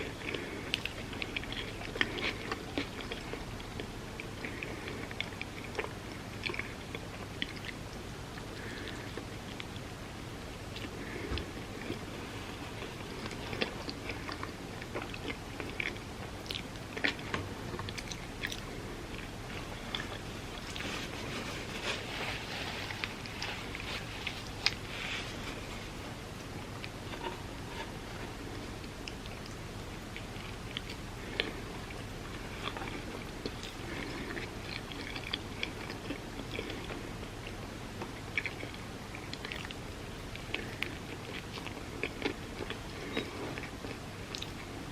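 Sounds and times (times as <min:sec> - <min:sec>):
person chewing and biting: 0:00.0 - 0:07.8, 0:10.7 - 0:22.1, 0:22.9 - 0:44.6.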